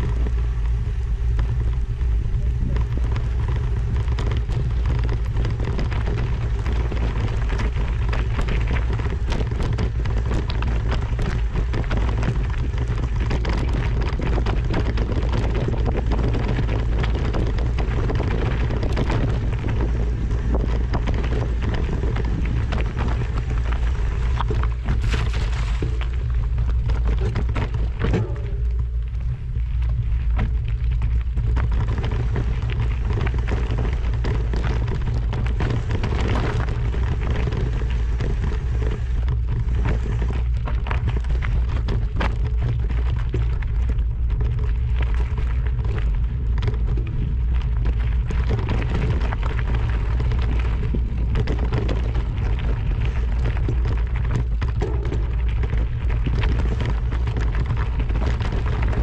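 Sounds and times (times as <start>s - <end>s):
constant crackle and clicks: 0.0s - 59.0s
wind buffeting microphone: 0.0s - 59.0s.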